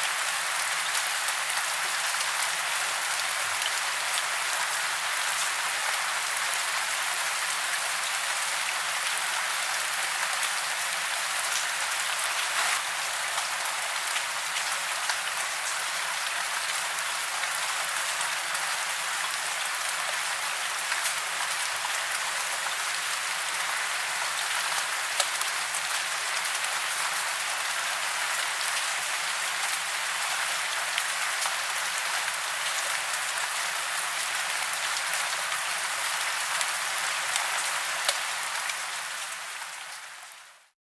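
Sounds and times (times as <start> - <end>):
rain falling on foliage: 0.0 - 40.8.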